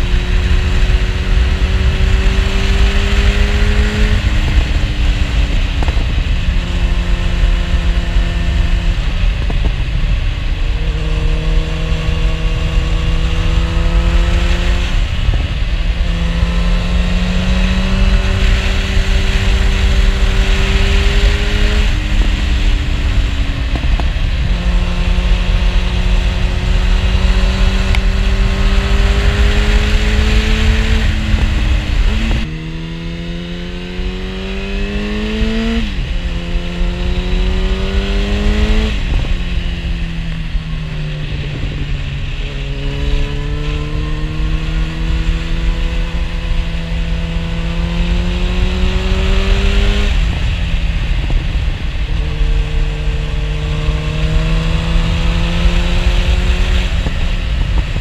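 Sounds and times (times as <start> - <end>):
motorcycle engine revving through gears: 0.0 - 58.0
wind rumble on microphone: 0.0 - 58.0.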